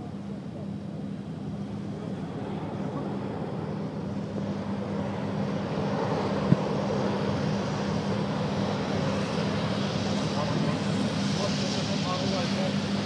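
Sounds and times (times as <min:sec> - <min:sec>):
distant jet rumble: 0:00.0 - 0:13.0
steady low hum: 0:00.0 - 0:13.0.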